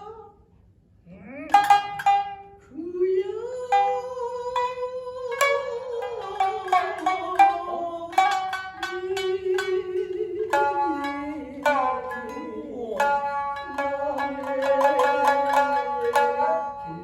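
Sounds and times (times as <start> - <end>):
shamisen plucking: 1.5 - 2.7, 3.5 - 17.0.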